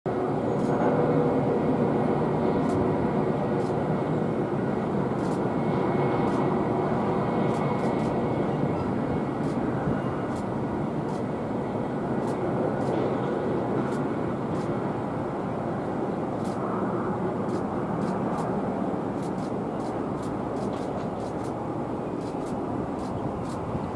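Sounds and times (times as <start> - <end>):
distant jet engine rumble: 0.1 - 23.9.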